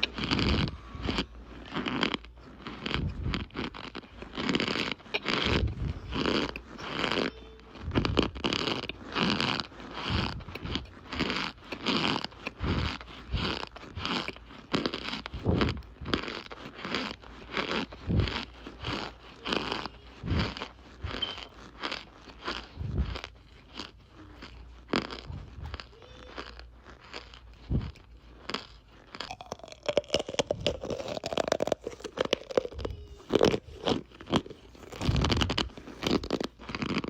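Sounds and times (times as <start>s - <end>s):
cornstarch crunching and squeaking: 0.0s - 37.0s.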